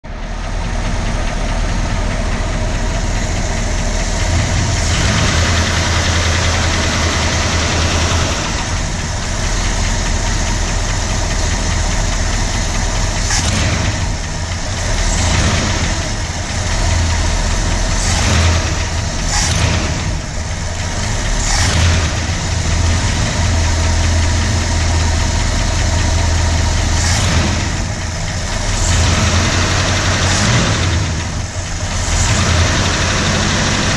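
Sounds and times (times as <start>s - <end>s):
car engine idling: 0.0s - 33.9s
engine ticking: 0.0s - 33.9s.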